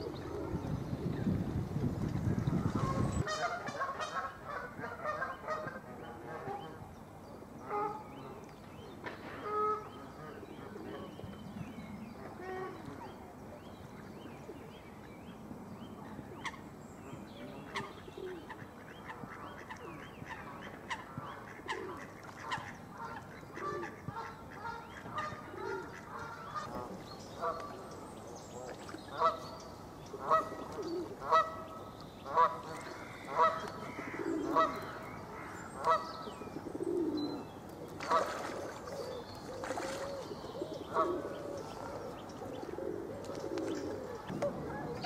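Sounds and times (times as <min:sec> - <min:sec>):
bird calls and chatter: 0:00.0 - 0:45.0.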